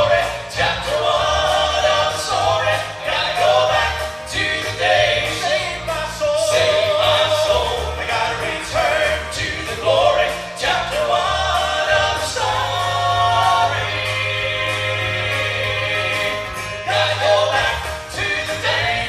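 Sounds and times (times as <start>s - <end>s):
group singing in close harmony: 0.0s - 19.0s
instrumental accompaniment: 0.0s - 19.0s
steady bass line: 0.0s - 19.0s.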